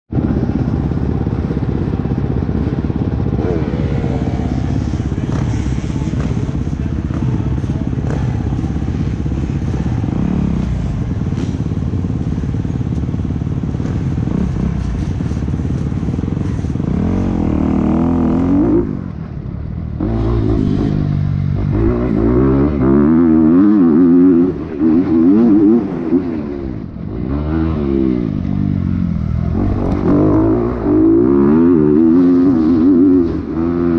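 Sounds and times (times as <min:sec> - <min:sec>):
dirt bike engine revving: 0:00.2 - 0:33.9.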